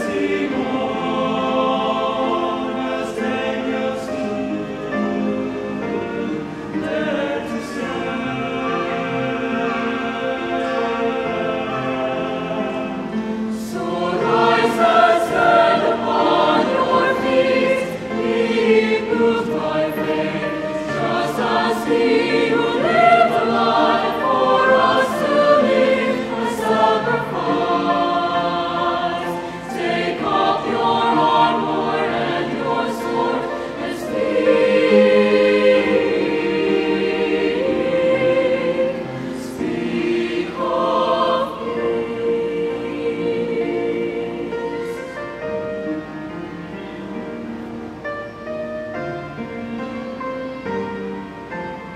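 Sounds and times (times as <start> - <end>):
mixed choir singing in harmony: 0.0 - 51.9.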